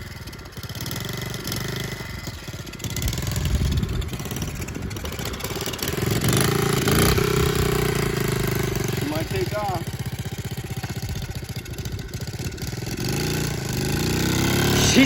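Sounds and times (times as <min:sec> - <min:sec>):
minibike engine revving: 0:00.0 - 0:15.0.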